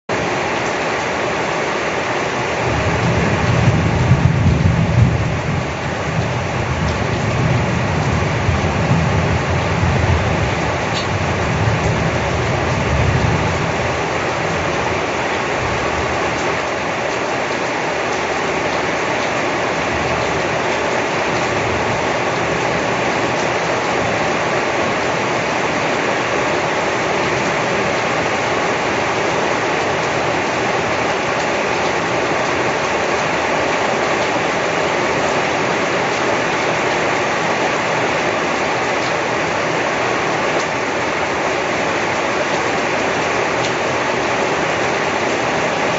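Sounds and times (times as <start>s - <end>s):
heavy rain falling: 0.1s - 45.9s.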